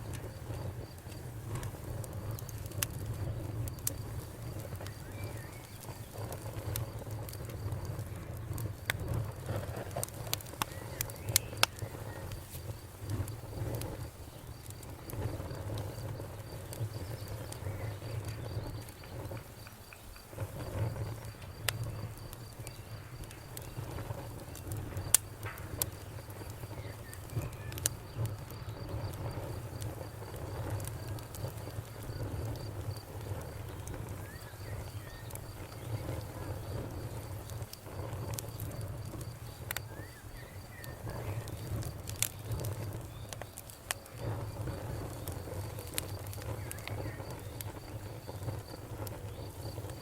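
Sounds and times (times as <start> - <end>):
campfire crackling: 0.0 - 50.0
faint insect chirping: 0.0 - 50.0.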